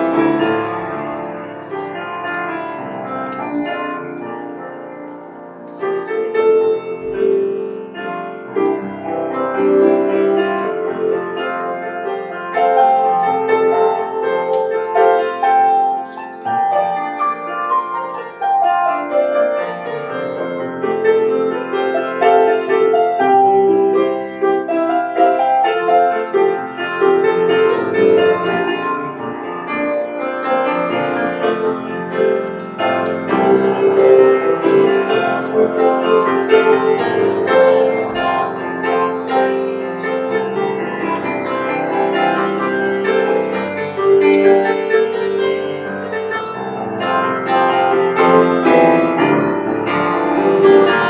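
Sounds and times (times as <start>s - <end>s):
grand piano playing: 0.0s - 51.0s.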